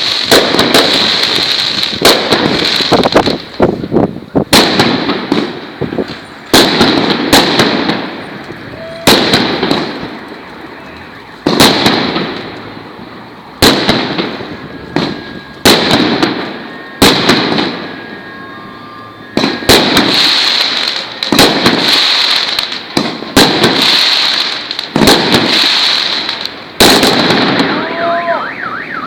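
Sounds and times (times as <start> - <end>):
fireworks crackling and fizzing: 0.0 - 28.5
fireworks bangs: 0.0 - 29.0.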